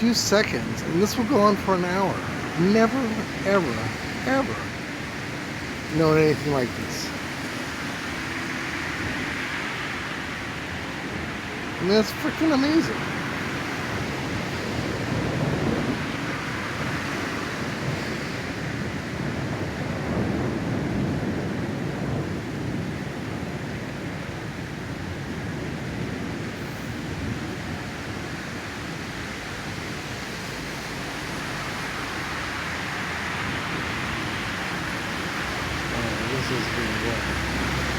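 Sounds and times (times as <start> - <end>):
rushing rain: 0.0 - 37.9
thunder rumbling: 0.0 - 37.9.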